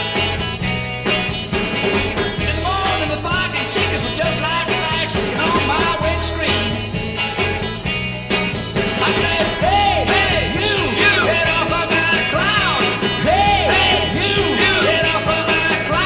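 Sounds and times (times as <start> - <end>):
rock band playing instrumental: 0.0 - 16.0.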